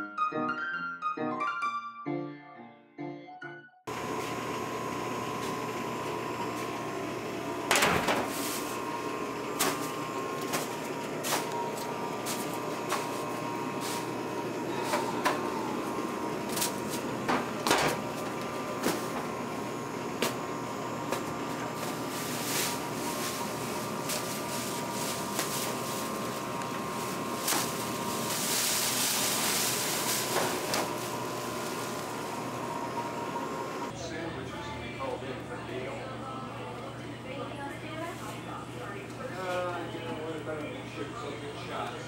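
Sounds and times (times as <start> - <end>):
kitchen equipment hum: 3.9 - 42.0.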